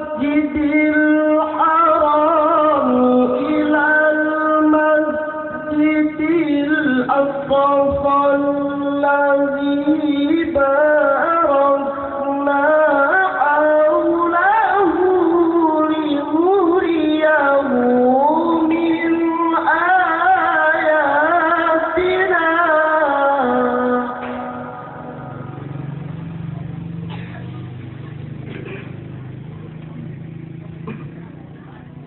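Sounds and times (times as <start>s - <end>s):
man reciting melodically: 0.0s - 26.0s.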